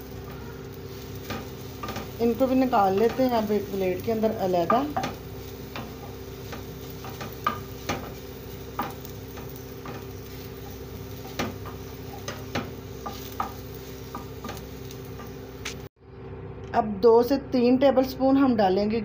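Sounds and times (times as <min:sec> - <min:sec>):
wooden spatula scraping a pan: 0:00.0 - 0:15.6
light sizzle: 0:00.0 - 0:15.9.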